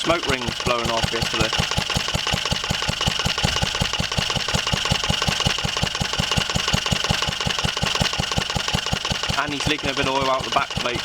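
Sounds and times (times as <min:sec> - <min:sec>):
stationary engine running: 0:00.0 - 0:11.0.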